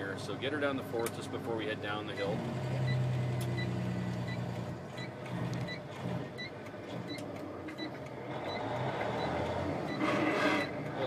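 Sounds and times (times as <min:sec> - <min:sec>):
road noise: 0:00.0 - 0:11.0
truck engine drone from cab: 0:00.0 - 0:11.0.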